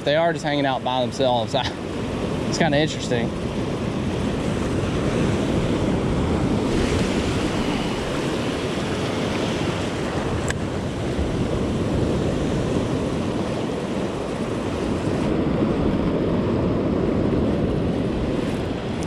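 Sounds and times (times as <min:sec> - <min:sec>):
surf breaking over shallows: 0:00.0 - 0:19.0
wind buffeting microphone: 0:00.0 - 0:19.0.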